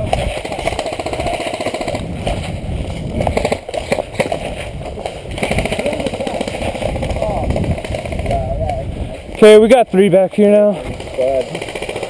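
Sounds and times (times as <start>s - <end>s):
airsoft guns firing bursts: 0.0s - 8.6s, 10.7s - 12.0s
sharp cracks: 0.0s - 8.7s, 10.9s - 12.0s.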